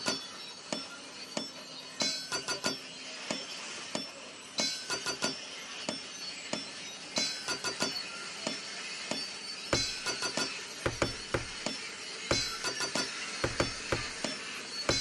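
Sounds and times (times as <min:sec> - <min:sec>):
glassy metallic strikes: 0:00.0 - 0:15.0.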